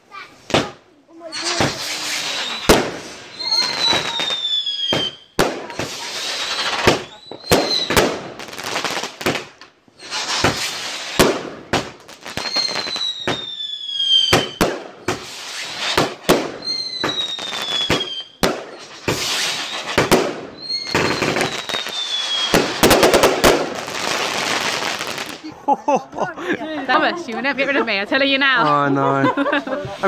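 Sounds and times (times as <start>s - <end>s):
fireworks bangs and crackling: 0.0s - 25.5s
whistling fireworks: 0.4s - 25.4s.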